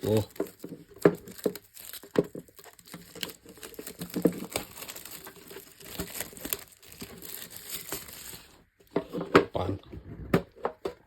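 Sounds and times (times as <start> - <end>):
plastic wrap crinkling and tearing: 0.0 - 9.2.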